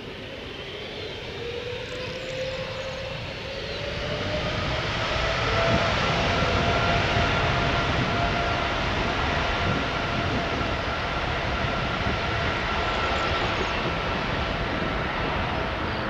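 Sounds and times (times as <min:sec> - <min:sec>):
jet engines running: 0:00.0 - 0:16.0
thin engine whine: 0:00.0 - 0:16.0.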